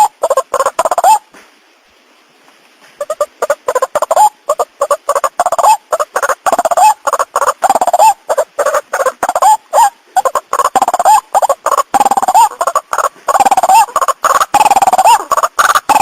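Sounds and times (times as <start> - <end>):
waterhen harsh calls: 0.0 - 1.3, 2.9 - 16.0.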